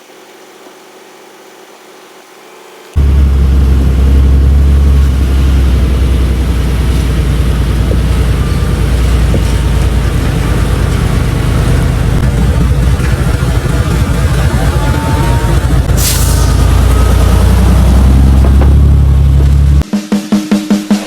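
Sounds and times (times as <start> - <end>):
diesel engine rumbling: 3.0 - 19.8.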